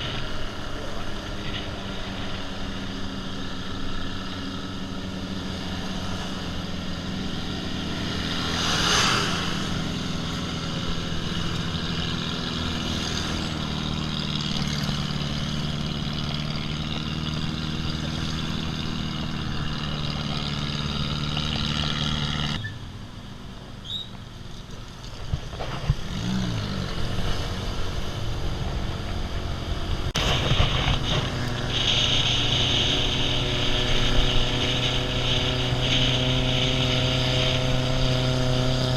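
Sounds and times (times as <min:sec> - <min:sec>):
off-road vehicle engine revving: 0:00.0 - 0:22.8, 0:25.3 - 0:38.9.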